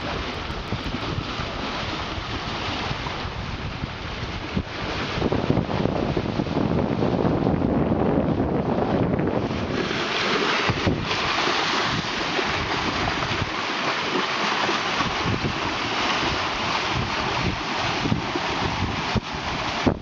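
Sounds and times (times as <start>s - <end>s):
water rushing along boat hulls: 0.0s - 20.0s
wind buffeting microphone: 0.0s - 20.0s.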